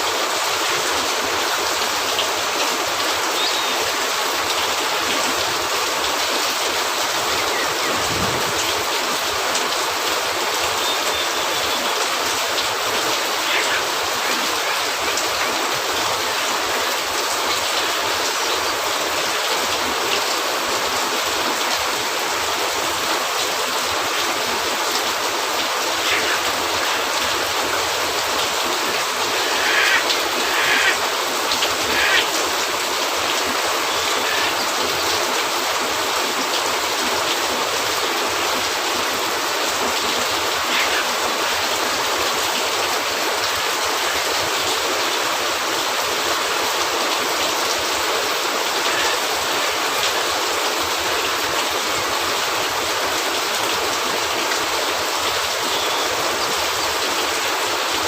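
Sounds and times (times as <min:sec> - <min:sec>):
rain on a roof: 0:00.0 - 0:58.0.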